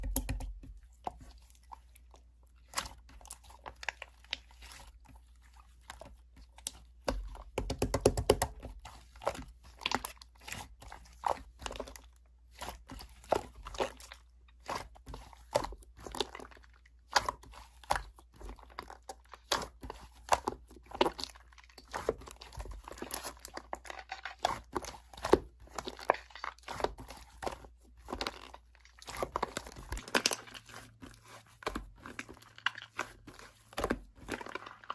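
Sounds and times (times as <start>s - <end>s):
slime squished by hand: 0.0s - 34.9s.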